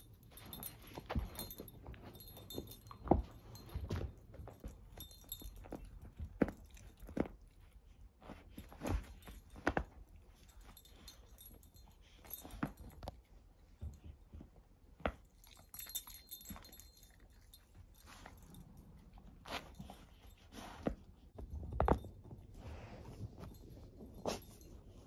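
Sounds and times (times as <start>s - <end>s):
collar tags jingling: 0.0s - 25.0s.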